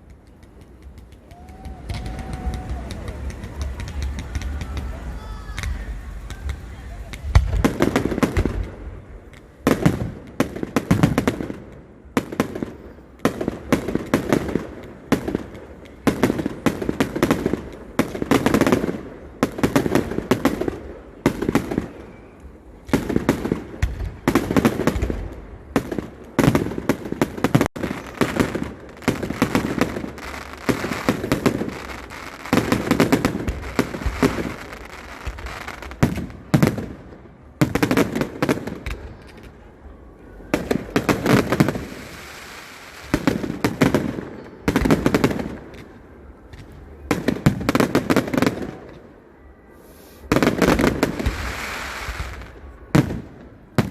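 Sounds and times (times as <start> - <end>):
aerial fireworks bursting: 0.0 - 39.6, 40.4 - 49.0, 49.7 - 53.9
fireworks crackling: 0.0 - 53.9.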